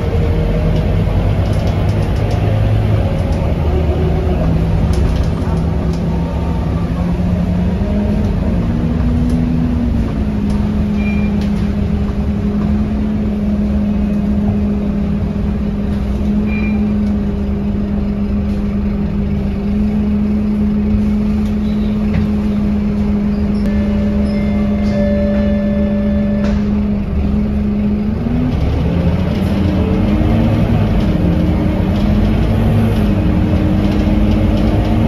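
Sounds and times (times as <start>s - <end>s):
bus diesel engine running: 0.0s - 35.0s
drivetrain whine: 0.0s - 35.0s.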